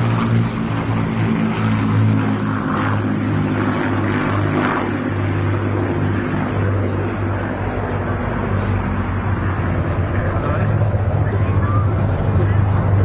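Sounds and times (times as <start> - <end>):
propeller plane engines droning: 0.0 - 13.0.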